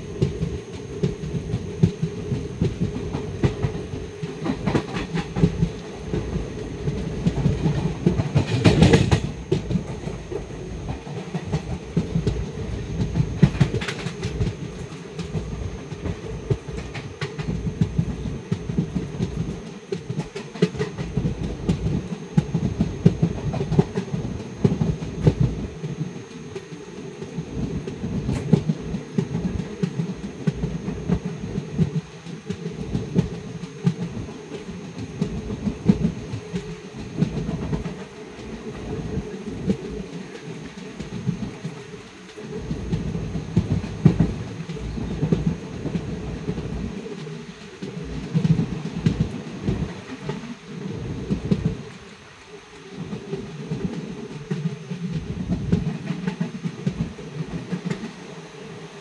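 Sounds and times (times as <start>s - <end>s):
train rumbling at speed: 0.0s - 59.0s.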